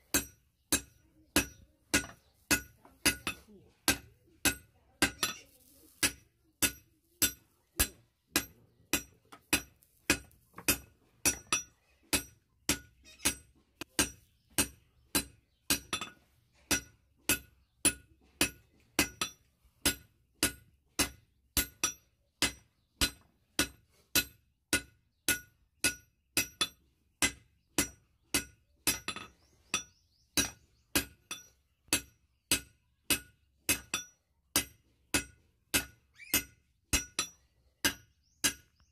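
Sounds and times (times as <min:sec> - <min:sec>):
hammer striking metal on anvil: 0:00.0 - 0:38.6.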